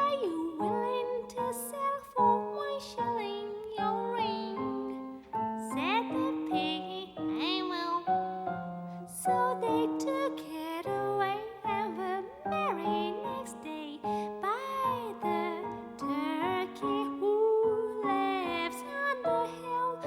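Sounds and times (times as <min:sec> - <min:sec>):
piano accompaniment: 0:00.0 - 0:20.0
woman singing: 0:00.0 - 0:20.0.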